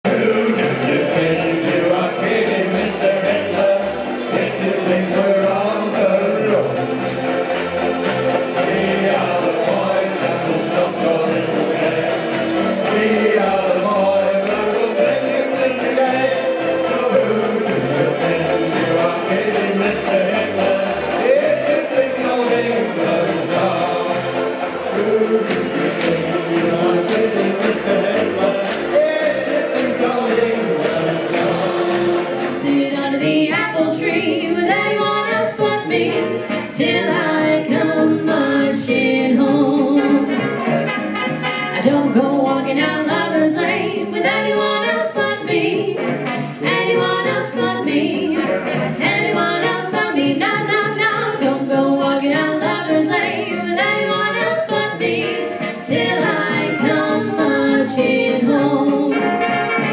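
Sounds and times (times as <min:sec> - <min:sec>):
two women singing in harmony: 0:00.1 - 0:07.1, 0:07.8 - 0:40.4, 0:41.7 - 0:59.5.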